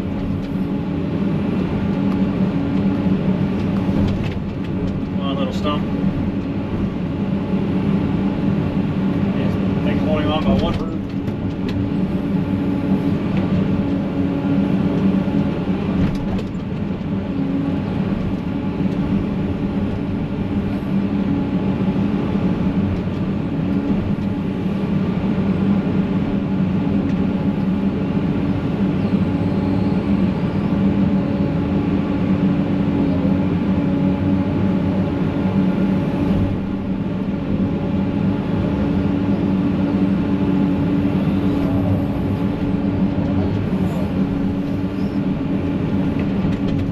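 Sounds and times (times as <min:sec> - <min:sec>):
excavator diesel engine drone: 0:00.0 - 0:46.9.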